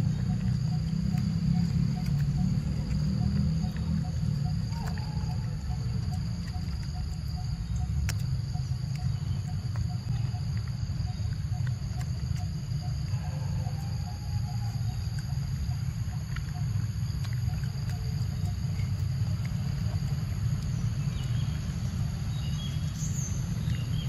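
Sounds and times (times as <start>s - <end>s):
faint regular chirp: 0.0s - 24.0s
insects buzzing: 0.0s - 24.0s.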